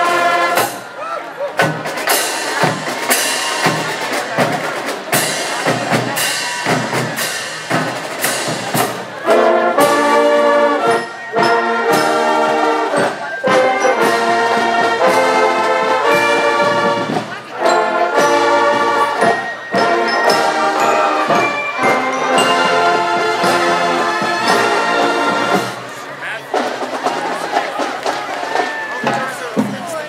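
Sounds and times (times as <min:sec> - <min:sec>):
brass band held chords: 0:00.0 - 0:01.0, 0:01.6 - 0:28.2
drumbeats: 0:00.0 - 0:30.0.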